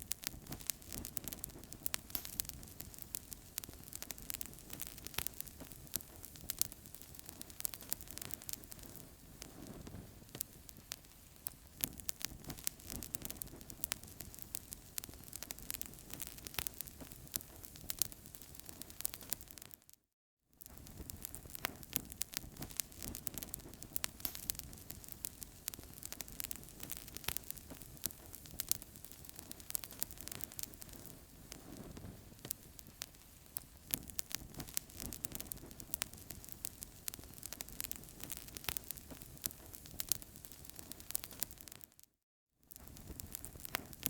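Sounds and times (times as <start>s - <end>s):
fire crackling: 0.0s - 19.9s, 20.6s - 42.0s, 42.7s - 44.0s.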